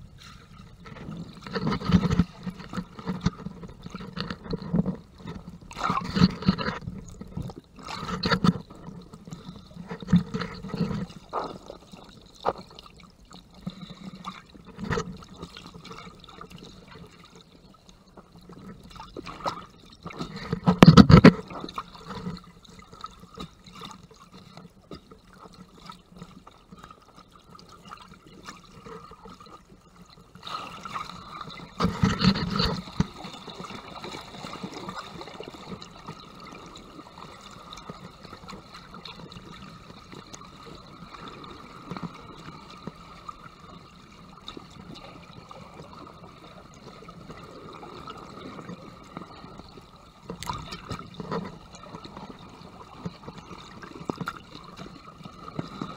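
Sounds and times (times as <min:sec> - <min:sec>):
muffled underwater water sloshing: 0:00.0 - 0:55.9.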